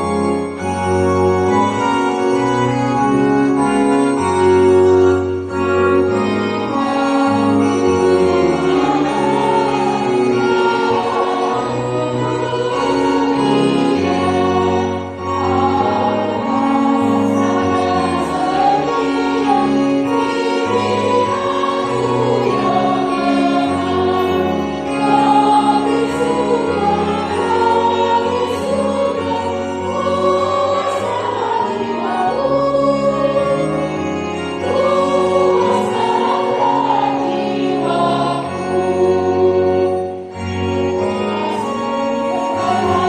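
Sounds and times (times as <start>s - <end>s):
choir singing: 0.0s - 43.0s
electronic organ playing hymn: 0.0s - 43.0s.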